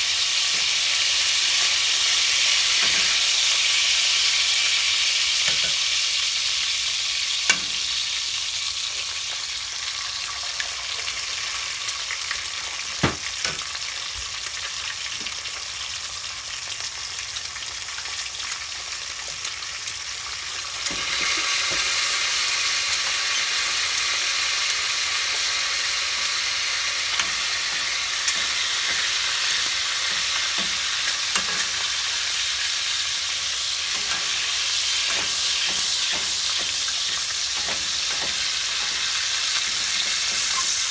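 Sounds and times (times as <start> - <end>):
eggs sizzling in oil: 0.0 - 40.9.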